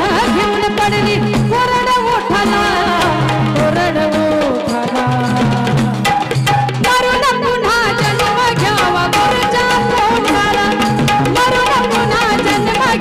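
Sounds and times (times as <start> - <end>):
woman singing: 0.0 - 6.1, 6.8 - 13.0
steady drum strokes: 0.0 - 13.0.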